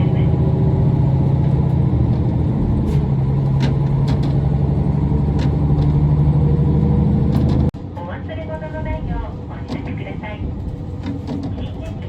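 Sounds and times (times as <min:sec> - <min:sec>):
railcar diesel engine hum: 0:00.0 - 0:12.0.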